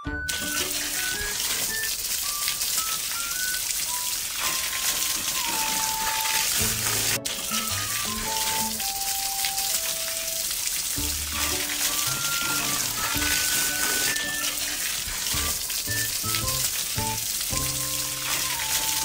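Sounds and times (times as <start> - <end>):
hissing water jet spray: 0.4 - 19.0.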